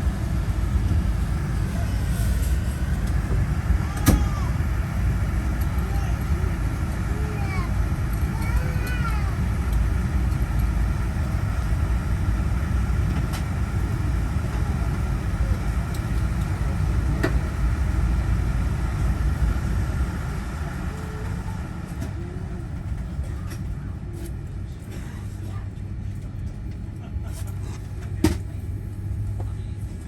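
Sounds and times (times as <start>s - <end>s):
faint engine whine: 0.0s - 30.0s
jet engine low rumble: 0.0s - 30.0s.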